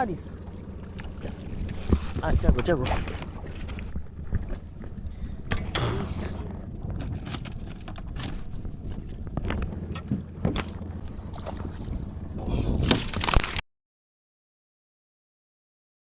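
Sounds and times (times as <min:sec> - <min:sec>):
wind buffeting microphone: 0:00.3 - 0:13.1
knocks and clatter against hull: 0:00.3 - 0:13.3.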